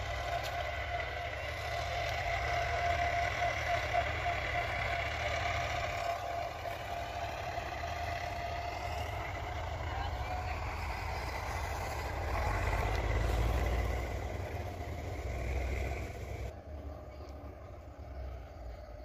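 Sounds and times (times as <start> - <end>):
steady motor drone: 0.0 - 19.0.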